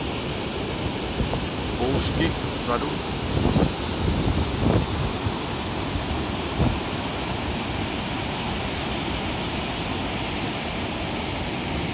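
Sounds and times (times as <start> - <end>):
river water rushing: 0.0 - 11.9
wind rushing across microphone: 0.0 - 11.9.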